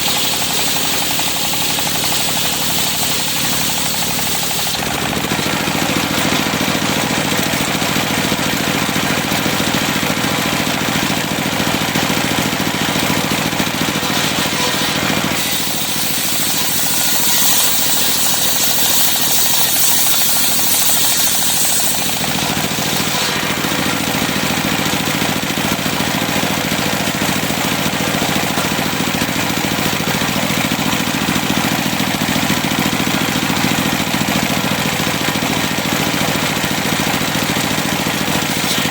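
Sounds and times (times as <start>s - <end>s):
saw blade whine cutting timber: 0.0s - 38.9s
sawmill engine drone: 0.0s - 38.9s.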